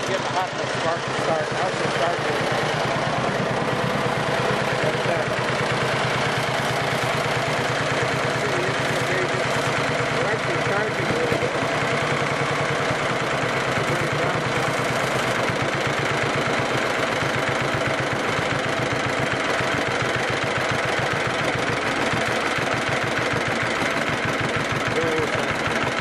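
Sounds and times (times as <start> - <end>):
tractor engine pulsing: 0.0 - 26.0.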